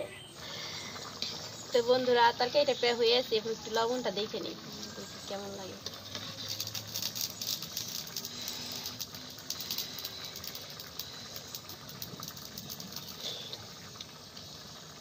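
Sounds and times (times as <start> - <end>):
curry bubbling and popping: 0.2 - 15.0.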